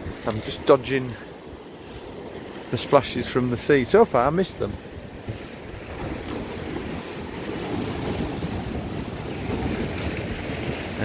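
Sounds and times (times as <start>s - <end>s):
sea surf breaking against seawall: 0.0s - 11.0s
wind buffeting microphone: 0.0s - 11.0s.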